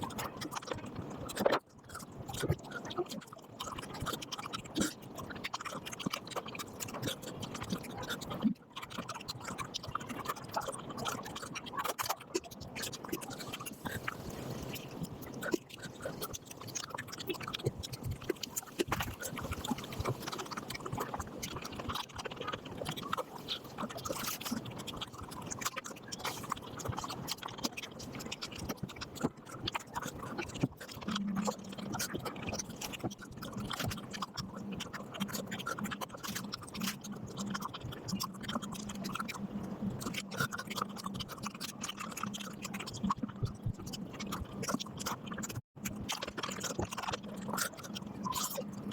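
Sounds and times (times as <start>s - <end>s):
fast chewing with mouth clicks: 0.0s - 48.9s.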